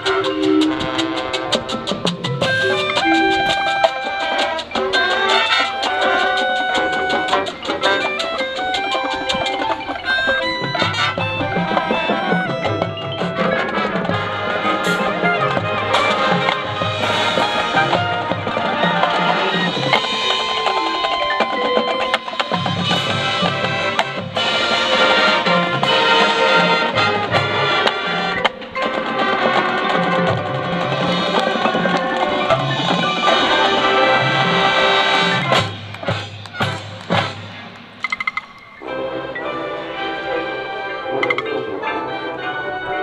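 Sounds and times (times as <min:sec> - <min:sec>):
marching band playing: 0:00.0 - 0:43.0.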